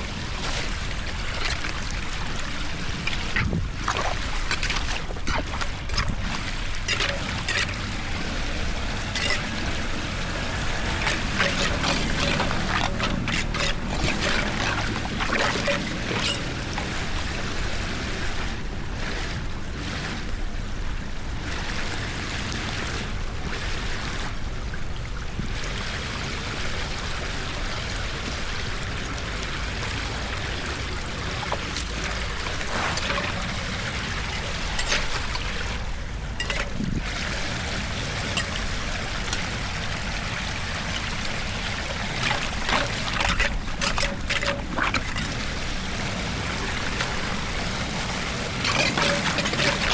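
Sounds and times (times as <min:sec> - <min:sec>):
floodwater pouring into a drain: 0:00.0 - 0:49.9
sharp water splashes: 0:00.0 - 0:49.9.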